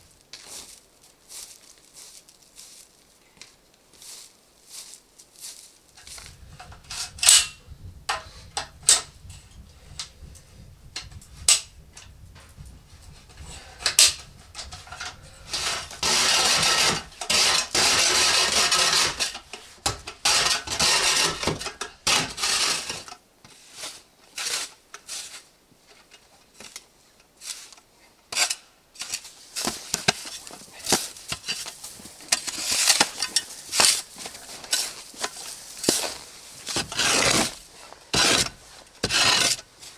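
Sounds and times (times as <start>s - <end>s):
scraping or rustling: 4.1s - 26.8s, 27.4s - 39.9s.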